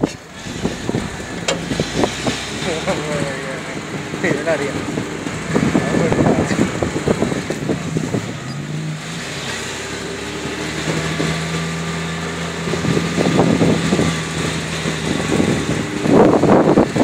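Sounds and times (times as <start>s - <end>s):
vehicle engine driving: 0.0s - 17.0s.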